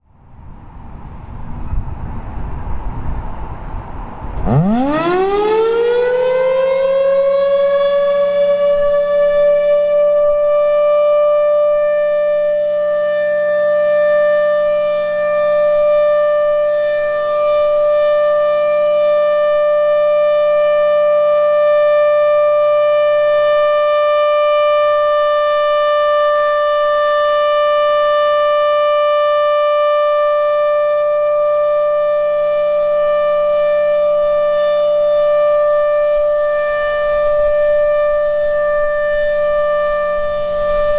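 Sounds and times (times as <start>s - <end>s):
civil defense siren: 0.0s - 40.9s.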